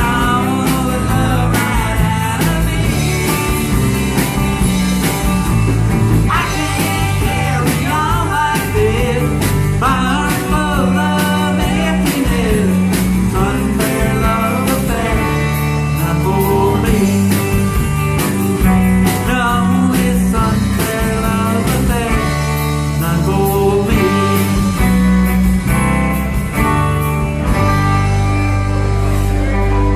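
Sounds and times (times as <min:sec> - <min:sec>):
band playing a song: 0:00.0 - 0:29.9.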